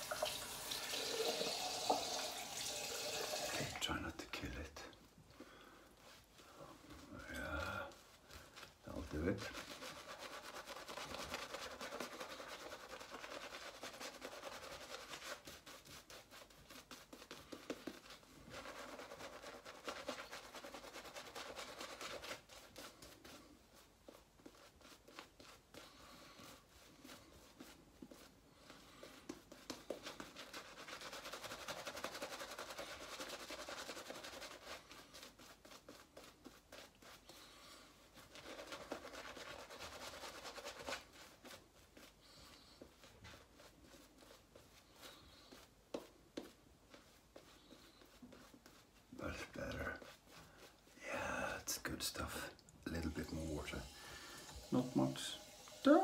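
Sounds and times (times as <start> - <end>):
shaving brush rubbing face: 5.8 - 56.0.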